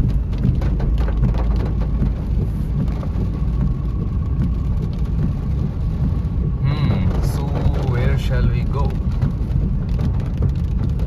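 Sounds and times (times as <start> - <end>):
car road and engine rumble: 0.0 - 11.0
raindrops tapping on car: 0.0 - 11.0.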